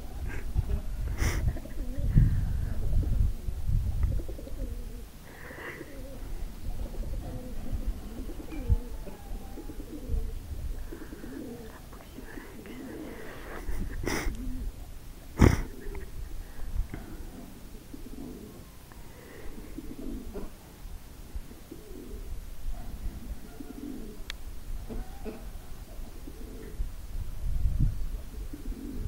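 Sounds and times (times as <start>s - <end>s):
pigeons cooing: 0.0s - 20.7s, 21.4s - 26.9s, 28.2s - 29.0s.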